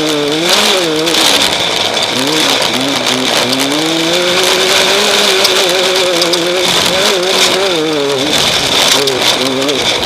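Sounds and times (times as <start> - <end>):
vehicle engine running hard: 0.0 - 10.0
wind and terrain noise: 0.0 - 10.0.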